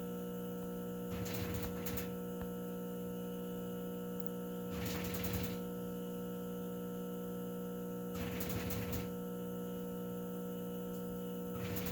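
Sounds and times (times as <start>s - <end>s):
steady electrical hum: 0.0s - 11.9s.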